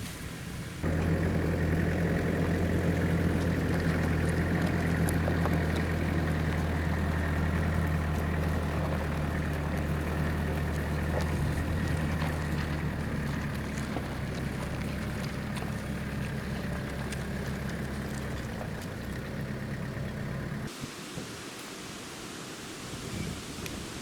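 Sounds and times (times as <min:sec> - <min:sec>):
truck engine running steadily: 0:00.5 - 0:20.7.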